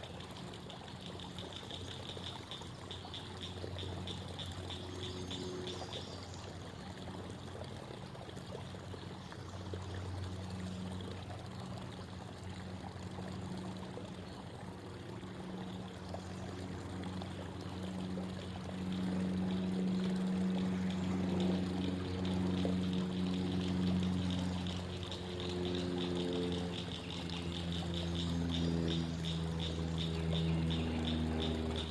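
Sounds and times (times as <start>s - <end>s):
creek water babbling: 0.0s - 31.9s
low steady hum: 0.0s - 31.9s.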